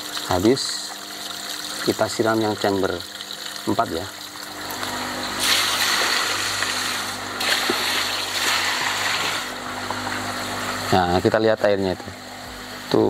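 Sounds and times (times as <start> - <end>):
water pouring and splashing: 0.0 - 10.8.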